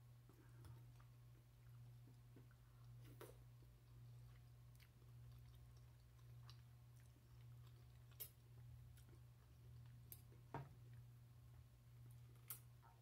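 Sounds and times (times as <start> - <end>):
low steady hum: 0.0 - 13.0
faint chewing: 0.2 - 13.0.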